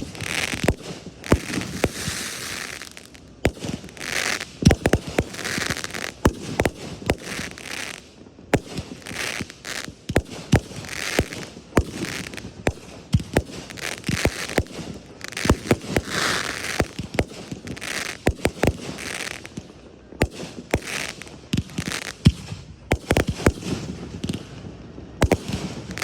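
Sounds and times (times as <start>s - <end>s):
fireworks bangs: 0.0s - 26.0s
fireworks hissing crackle: 0.0s - 26.0s.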